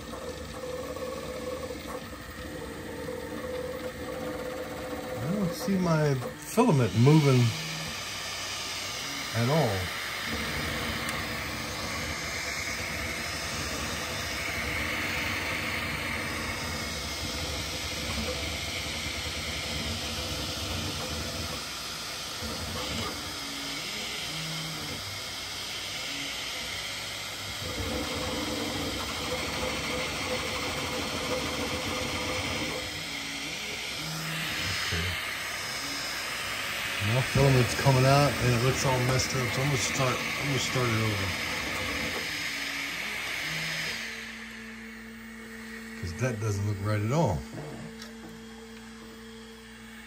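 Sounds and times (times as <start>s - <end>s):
stepper motors whirring: 0.0s - 50.0s
fan hiss: 5.1s - 50.0s.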